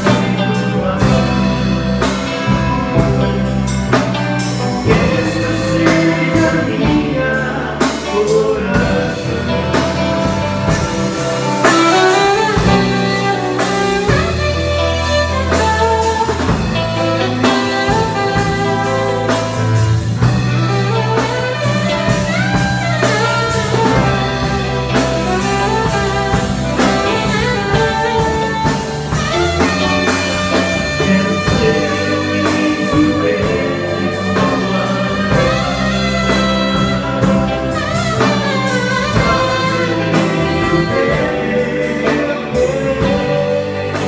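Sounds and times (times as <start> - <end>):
instrumental gospel band: 0.0 - 44.0
melodic lead line: 0.0 - 44.0.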